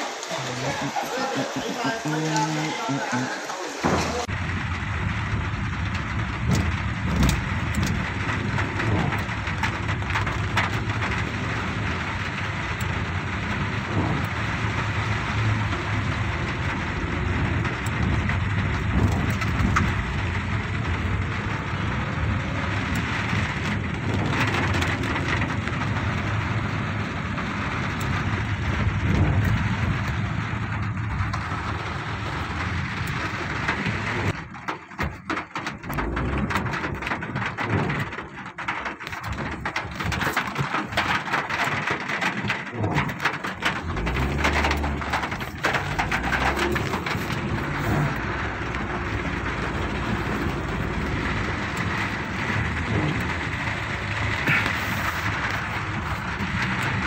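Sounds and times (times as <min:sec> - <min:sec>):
road and water hiss: 0:00.0 - 0:36.4, 0:38.9 - 0:57.0
car engine hum: 0:03.8 - 0:57.0.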